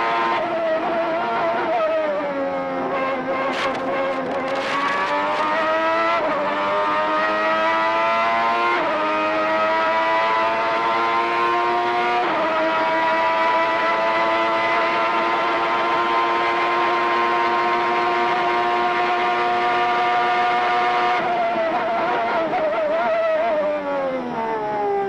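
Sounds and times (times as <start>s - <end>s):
racing car engine at full throttle: 0.0s - 25.0s.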